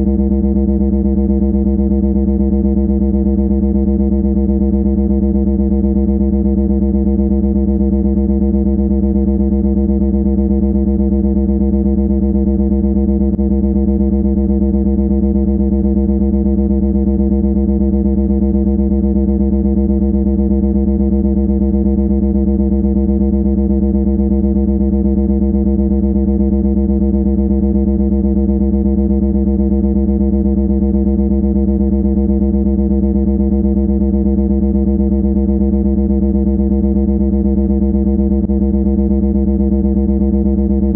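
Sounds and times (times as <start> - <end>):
low buzzing drone: 0.0 - 40.9.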